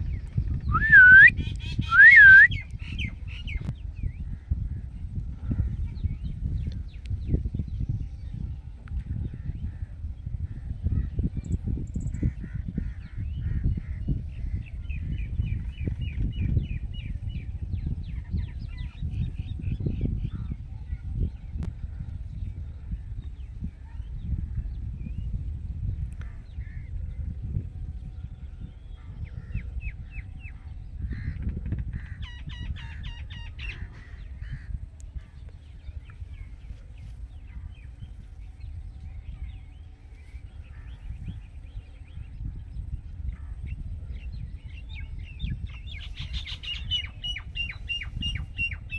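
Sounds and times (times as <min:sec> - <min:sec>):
wind rumble on microphone: 0:00.0 - 0:48.9.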